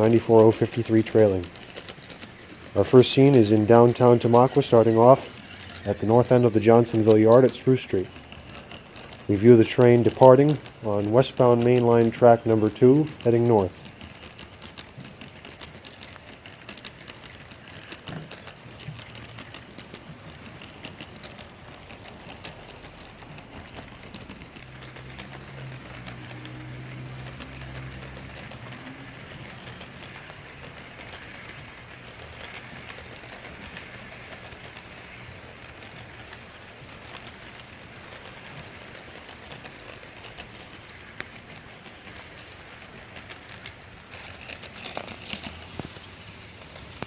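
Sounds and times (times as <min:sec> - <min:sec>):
model train running on track: 0:00.0 - 0:47.0
wheels clicking on rails: 0:00.0 - 0:47.0.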